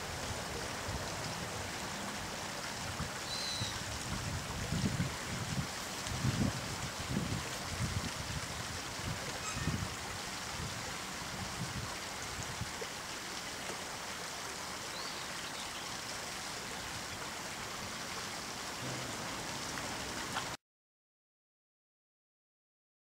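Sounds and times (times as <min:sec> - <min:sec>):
flowing water hiss: 0:00.0 - 0:20.6.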